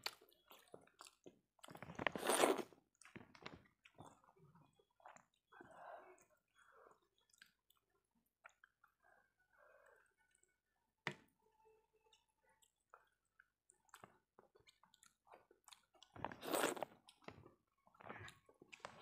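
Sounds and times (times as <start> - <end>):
chewing and wet mouth sounds: 0.0 - 10.6, 12.1 - 19.0.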